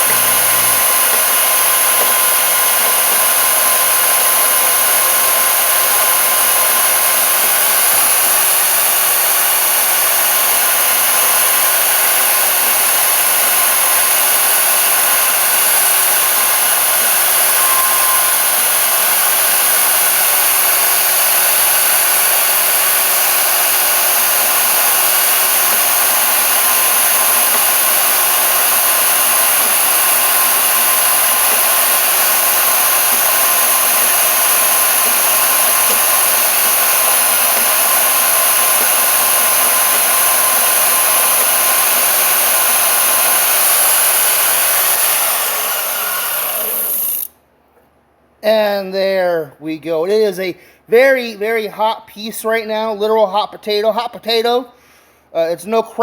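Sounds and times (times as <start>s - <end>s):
band saw cutting metal: 0.0s - 47.4s.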